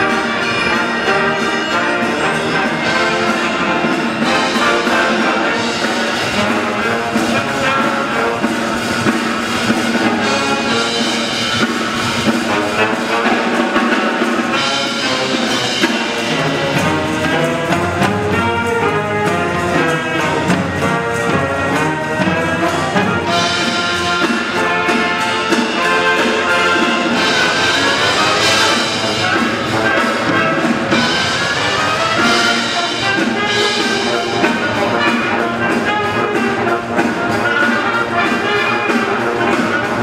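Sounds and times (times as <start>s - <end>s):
military band playing: 0.0s - 40.0s.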